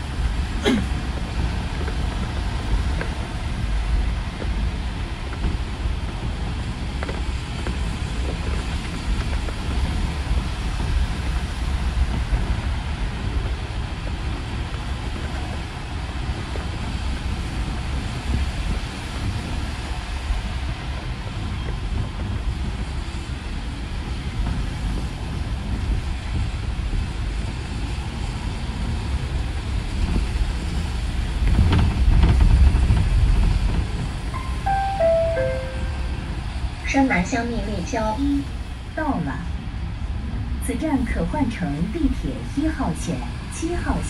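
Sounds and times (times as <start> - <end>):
bus rumble with tyre noise: 0.0 - 34.9, 36.4 - 44.0.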